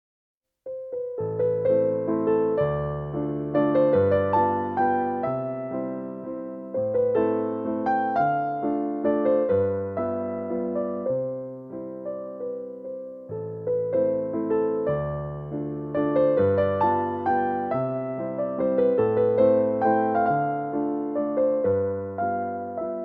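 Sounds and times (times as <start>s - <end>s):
soft piano music: 0.7s - 23.0s.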